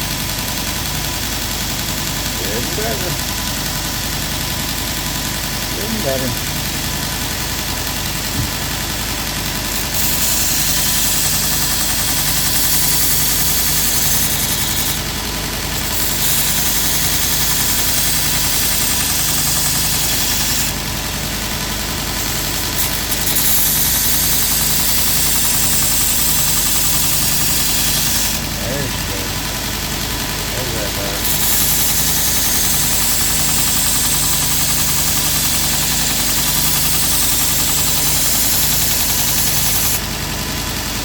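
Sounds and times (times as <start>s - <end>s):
belt grinder motor hum: 0.0s - 41.0s
loud grinding hiss: 0.0s - 41.0s.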